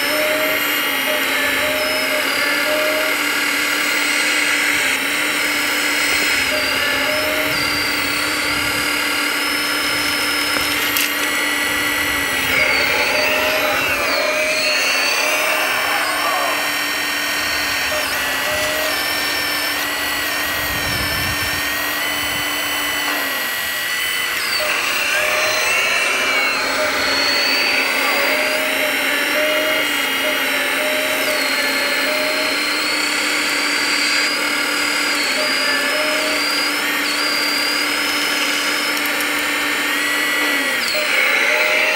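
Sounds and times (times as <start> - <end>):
electric motors whining: 0.0 - 41.9.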